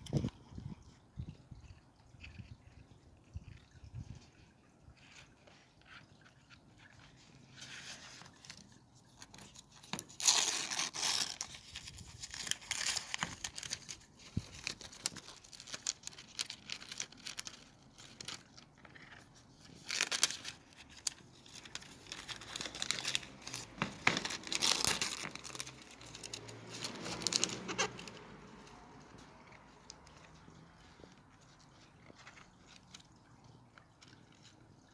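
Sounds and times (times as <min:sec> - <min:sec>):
packaging crinkling and tearing: 0:06.1 - 0:34.5.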